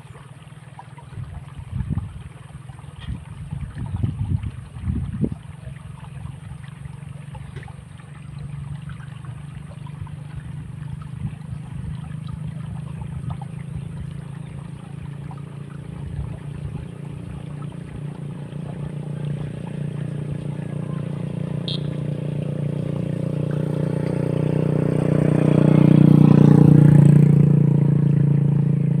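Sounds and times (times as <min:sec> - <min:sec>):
vehicle engine humming: 0:04.2 - 0:29.0.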